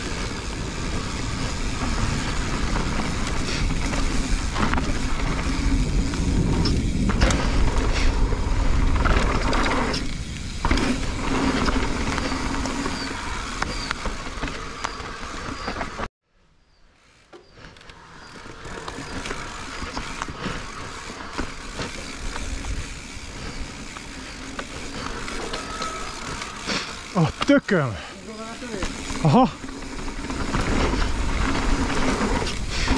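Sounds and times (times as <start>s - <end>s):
bike clicks and rattles: 0.0s - 16.1s, 17.0s - 32.9s.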